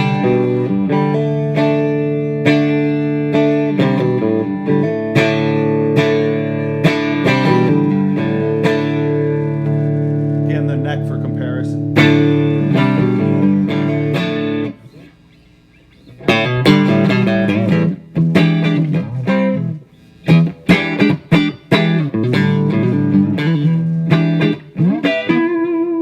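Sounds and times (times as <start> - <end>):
electric guitar chords and riffs: 0.0 - 26.0.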